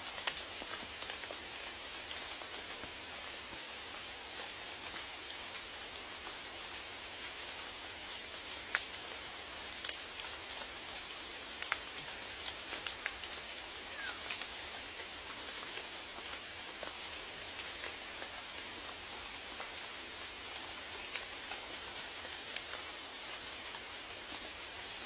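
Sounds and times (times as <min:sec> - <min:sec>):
raindrops ticking nearby: 0:00.0 - 0:25.0
steady rain: 0:00.0 - 0:25.0.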